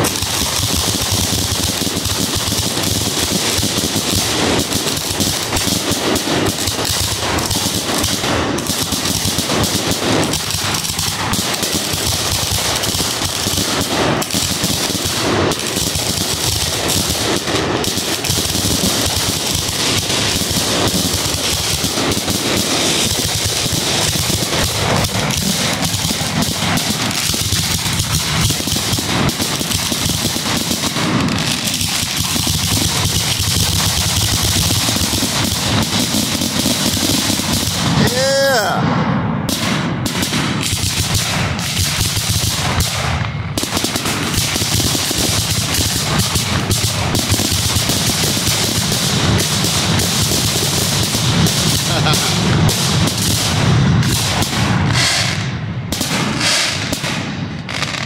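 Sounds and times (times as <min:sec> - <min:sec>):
fireworks launching and bursting: 0:00.0 - 0:58.0.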